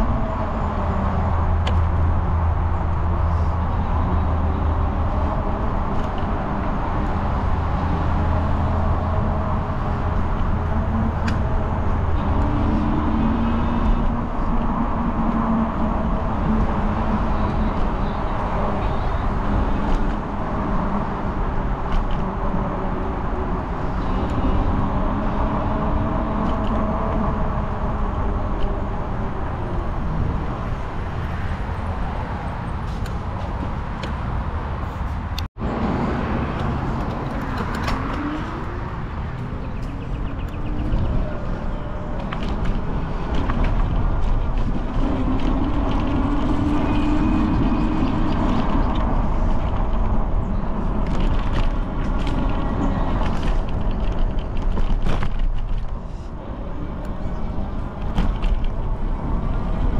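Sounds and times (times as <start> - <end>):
road noise: 0.0 - 59.9
vehicle engine rumble: 0.0 - 59.9.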